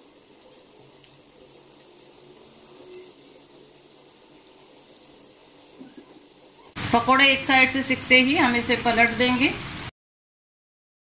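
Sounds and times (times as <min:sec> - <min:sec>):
food frying in hot oil: 0:00.0 - 0:09.9.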